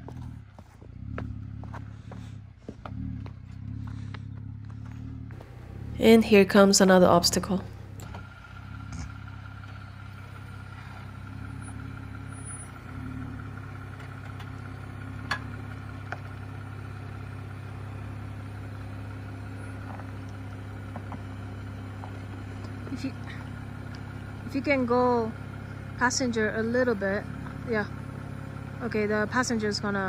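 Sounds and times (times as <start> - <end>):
car engine running low: 0.0 - 30.0.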